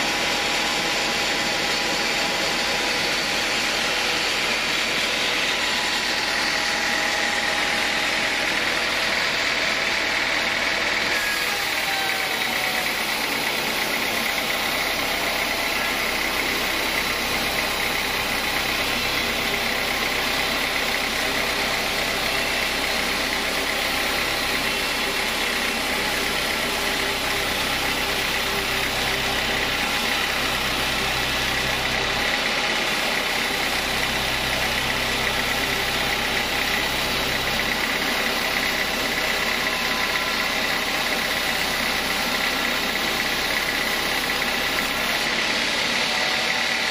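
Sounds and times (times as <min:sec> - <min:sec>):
sawmill mechanical drone: 0:00.0 - 0:46.9.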